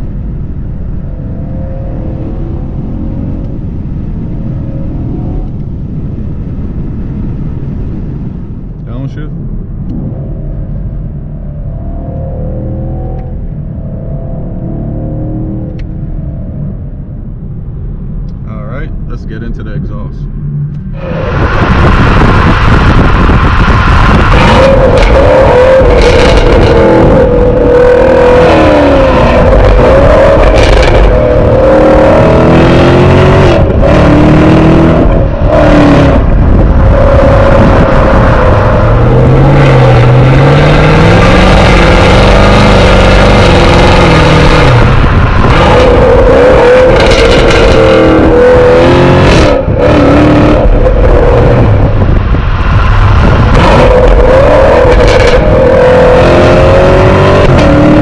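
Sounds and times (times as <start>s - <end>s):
car exhaust revving: 0.0s - 58.0s.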